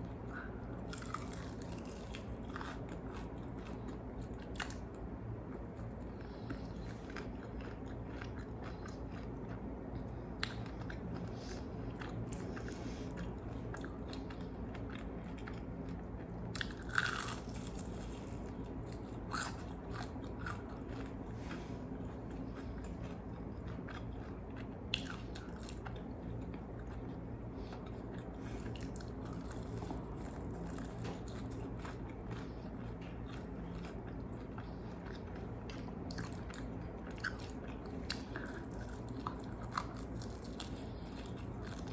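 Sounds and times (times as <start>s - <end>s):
chewing crispy fried chicken: 0.0s - 41.9s.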